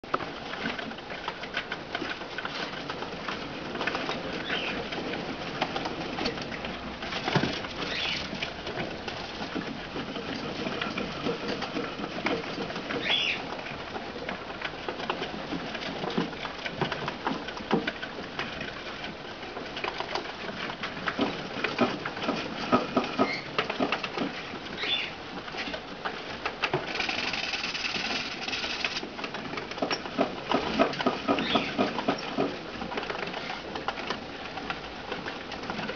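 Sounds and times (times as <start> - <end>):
rodents chewing: 0.4 - 35.9.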